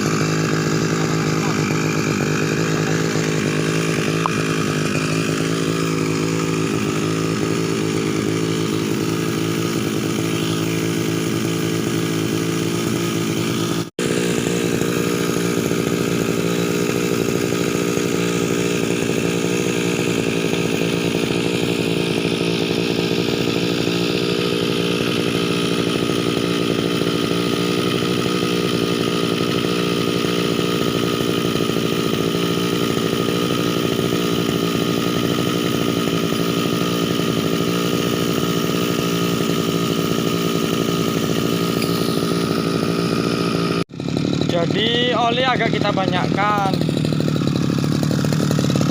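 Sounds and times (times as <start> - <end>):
brush cutter engine running: 0.0 - 48.9.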